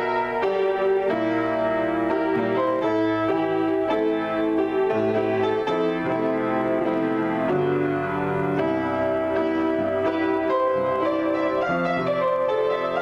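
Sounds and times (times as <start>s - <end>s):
solo piano improvisation: 0.0s - 13.0s.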